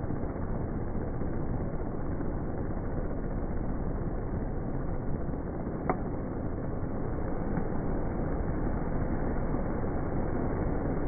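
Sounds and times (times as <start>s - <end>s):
fan low steady whir: 0.0s - 11.0s.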